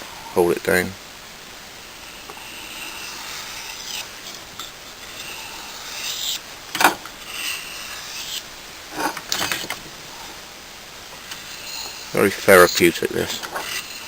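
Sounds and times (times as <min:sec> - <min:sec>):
knife rubbing on whetstone: 0:01.9 - 0:10.5, 0:11.2 - 0:14.0.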